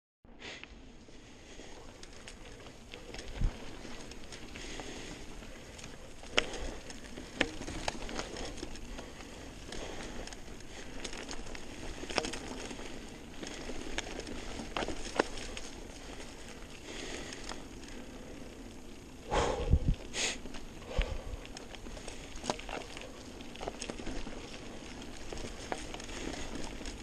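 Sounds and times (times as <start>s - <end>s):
bike tyres crunching over gravel: 0.4s - 27.0s.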